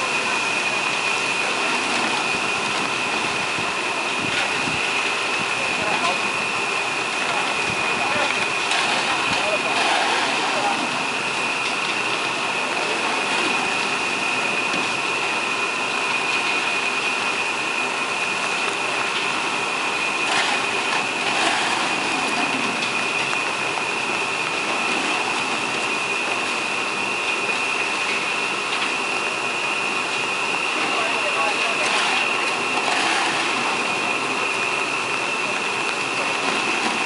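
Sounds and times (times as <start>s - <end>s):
concrete reclaimer machine running: 0.0s - 37.0s
high machine whine: 0.0s - 37.0s.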